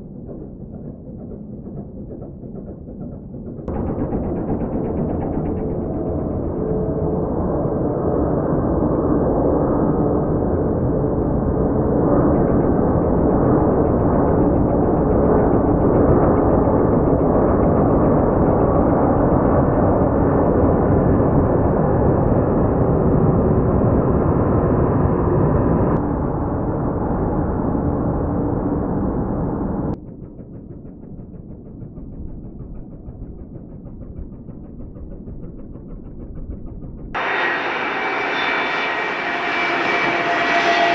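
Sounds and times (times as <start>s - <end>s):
jet engines rumbling: 0.0s - 30.0s, 31.8s - 40.9s.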